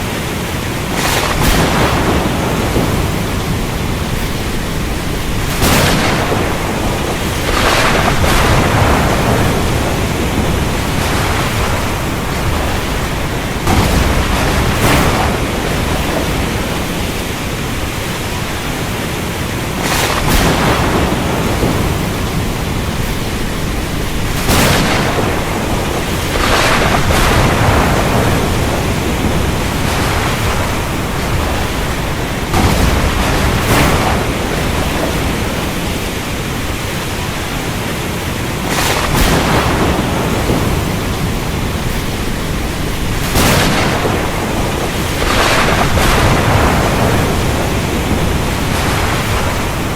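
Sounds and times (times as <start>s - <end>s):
heavy rain: 0.0s - 49.9s
sharp thunder cracks: 0.8s - 18.8s, 19.7s - 36.8s, 38.6s - 49.9s.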